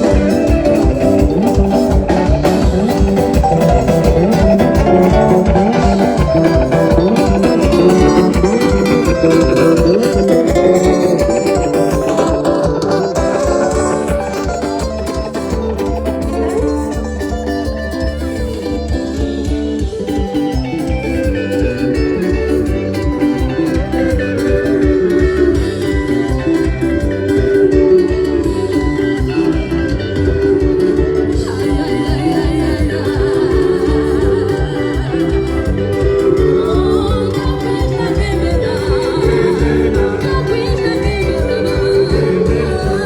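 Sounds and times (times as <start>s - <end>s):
person singing: 0.0s - 17.4s, 18.2s - 43.0s
live band with guitar: 0.0s - 43.0s.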